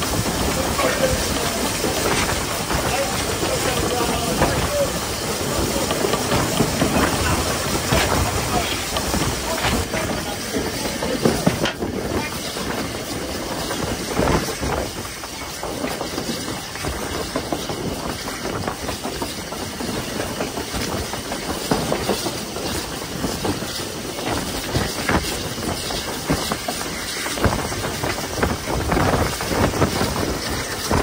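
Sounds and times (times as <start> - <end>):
steam locomotive running: 0.0 - 31.0.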